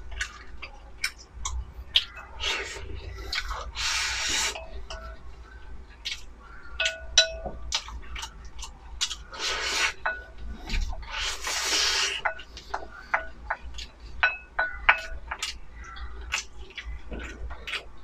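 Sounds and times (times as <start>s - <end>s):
close-miked eating: 0.0s - 18.0s.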